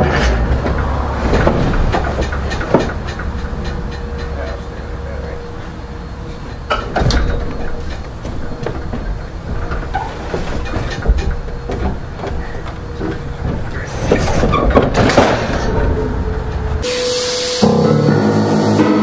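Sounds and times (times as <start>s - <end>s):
knocks and bumps: 0.0s - 16.8s
piano being rolled across floor: 0.0s - 19.0s.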